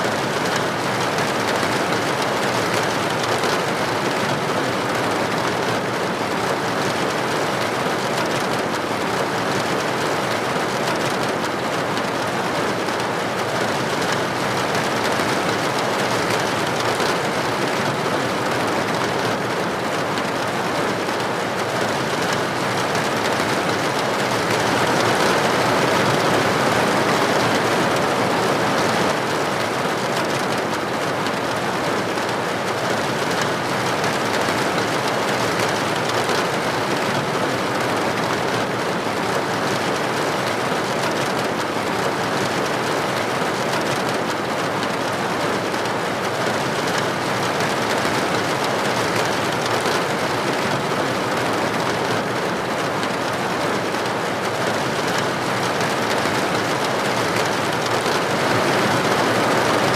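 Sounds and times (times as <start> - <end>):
heavy rain on hard surface: 0.0 - 59.9.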